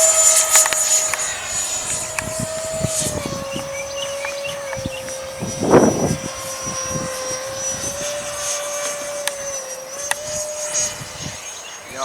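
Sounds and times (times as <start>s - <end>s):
model jet high whine: 0.0s - 12.0s
wind buffeting microphone: 0.0s - 12.0s.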